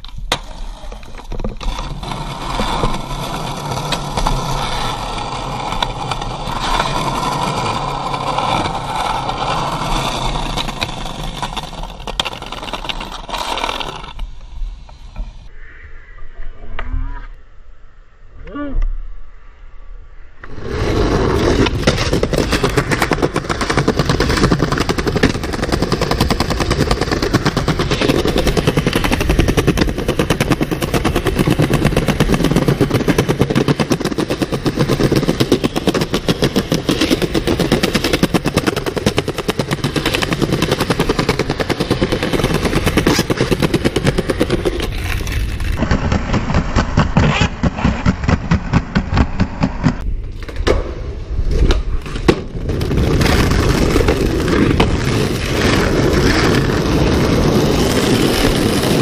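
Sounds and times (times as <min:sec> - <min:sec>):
skateboard wheels rattling on pavement: 0:00.0 - 0:15.5, 0:20.5 - 0:59.0.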